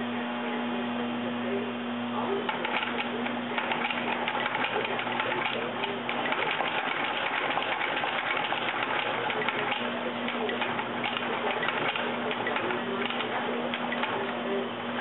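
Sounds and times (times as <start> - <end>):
stitching machine sewing: 2.5 - 15.0.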